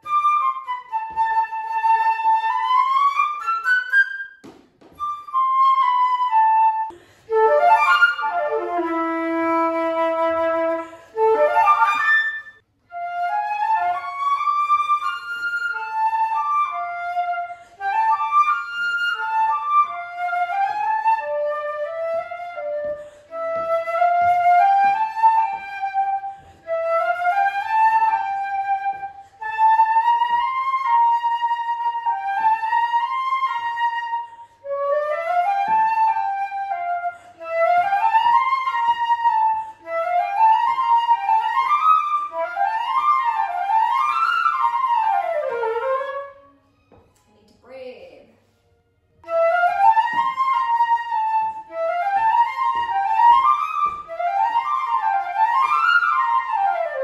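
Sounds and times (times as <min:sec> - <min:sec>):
solo flute playing: 0:00.0 - 0:47.0, 0:49.1 - 0:57.0.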